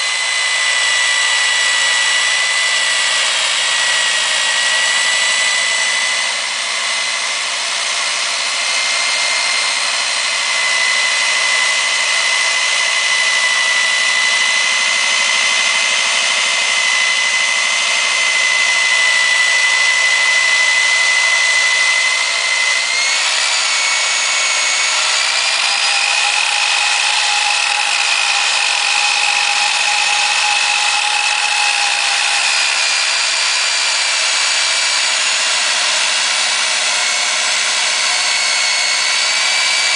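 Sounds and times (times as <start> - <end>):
core drill whining into concrete: 0.0 - 39.9.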